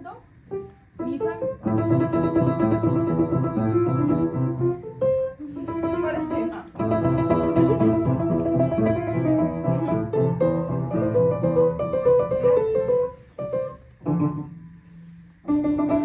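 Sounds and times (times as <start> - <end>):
piano melody over chords: 0.5 - 16.0.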